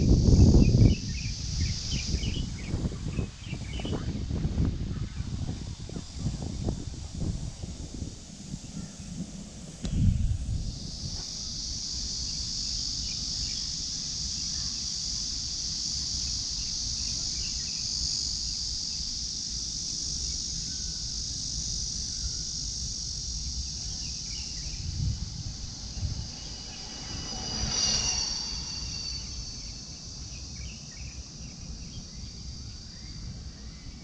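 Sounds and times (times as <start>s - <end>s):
wind rumble on microphone: 0.0s - 14.8s, 20.4s - 34.0s
insects droning: 0.0s - 34.0s.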